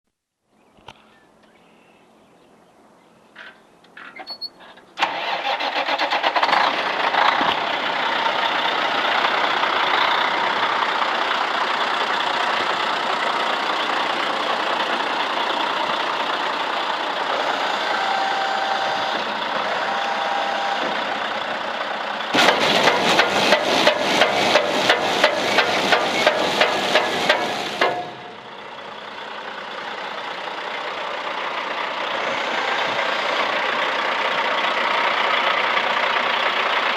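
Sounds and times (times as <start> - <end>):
diesel truck engine: 4.0 - 36.9.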